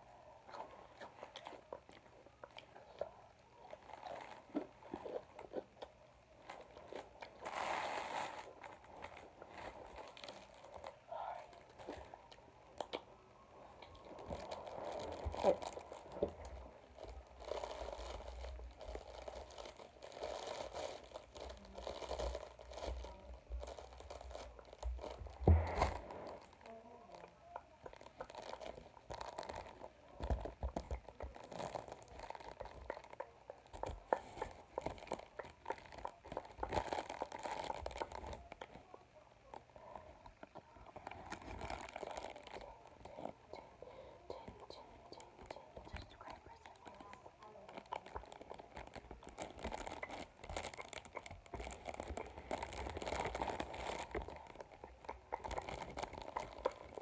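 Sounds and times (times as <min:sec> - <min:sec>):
close crunching and crinkling: 0:00.0 - 0:57.0.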